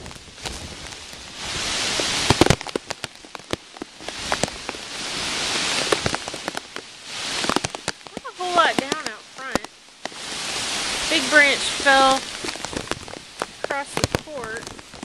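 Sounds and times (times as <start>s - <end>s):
raindrops tapping on plastic: 0.0s - 10.5s, 11.1s - 15.0s
heavy rain: 0.0s - 15.0s.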